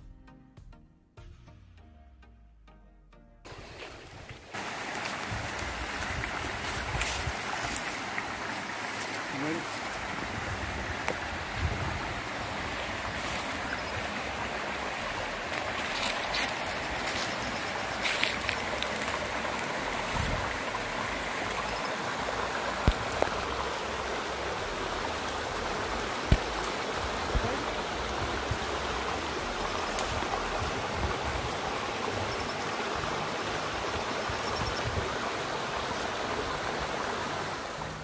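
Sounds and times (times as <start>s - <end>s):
river water flowing: 3.5s - 38.0s.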